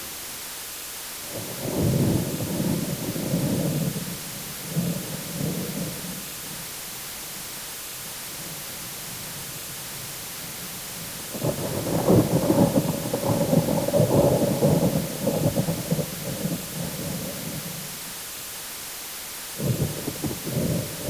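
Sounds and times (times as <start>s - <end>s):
rain hiss: 0.0s - 21.0s
crackling peal of thunder: 1.2s - 18.1s, 19.6s - 21.0s
thunder rumble: 1.3s - 18.0s, 19.6s - 21.0s.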